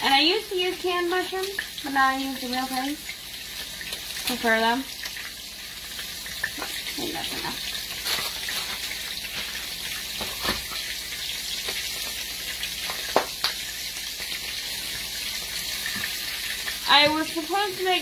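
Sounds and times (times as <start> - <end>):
steak sizzling in oil: 0.0 - 18.0.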